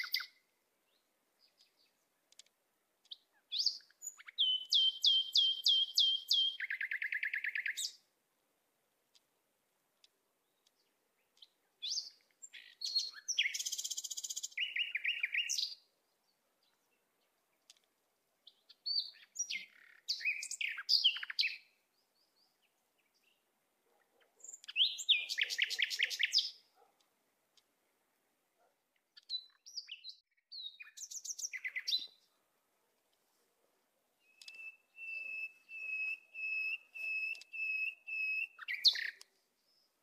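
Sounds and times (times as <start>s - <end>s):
bulbuls chirping: 0.0s - 8.0s, 10.0s - 40.0s.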